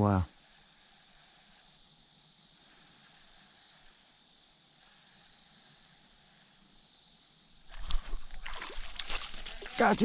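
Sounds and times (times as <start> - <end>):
crickets droning: 0.0 - 10.0.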